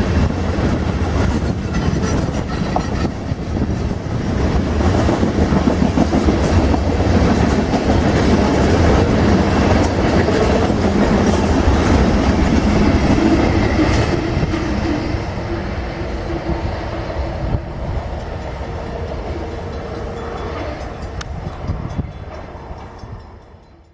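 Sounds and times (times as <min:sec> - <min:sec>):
freight train rolling past: 0:00.0 - 0:23.9.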